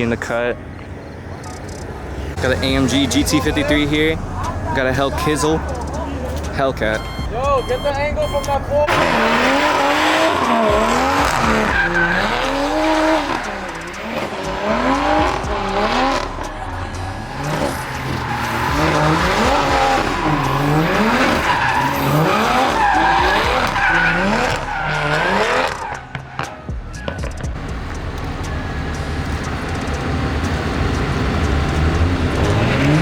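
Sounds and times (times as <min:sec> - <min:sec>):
car engine revving: 0:00.0 - 0:33.0
tires squealing on pavement: 0:01.3 - 0:33.0.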